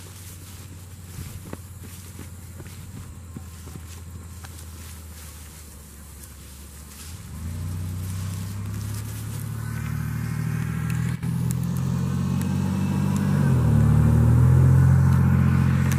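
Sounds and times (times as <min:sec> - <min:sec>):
vehicle engine droning: 0:00.0 - 0:15.9.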